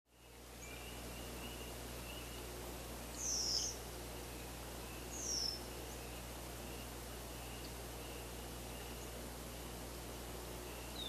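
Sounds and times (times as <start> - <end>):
faint bird chirps: 0.1 - 9.8, 10.5 - 11.0.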